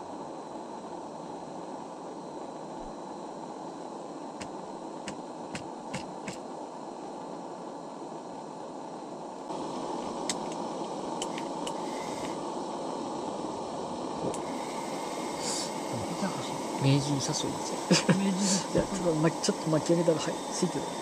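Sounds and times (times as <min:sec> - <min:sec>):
low rushing background noise: 0:00.0 - 0:21.0.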